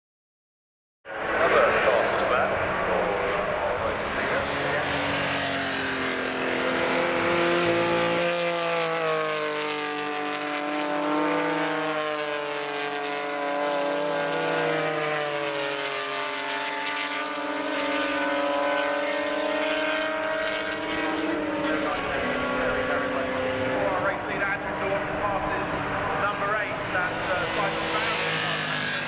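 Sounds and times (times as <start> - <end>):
race car engines running hard: 1.1 - 29.0.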